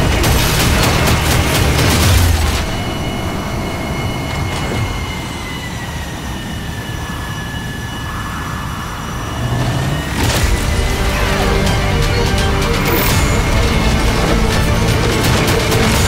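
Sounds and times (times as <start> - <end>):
giant fan blowing wind: 0.0 - 16.0.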